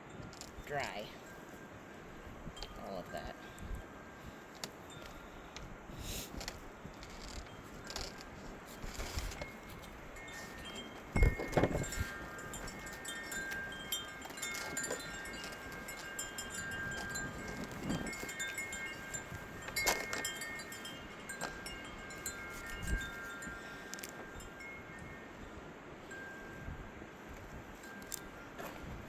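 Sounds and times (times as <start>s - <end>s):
wind chimes ringing: 0.0s - 29.0s.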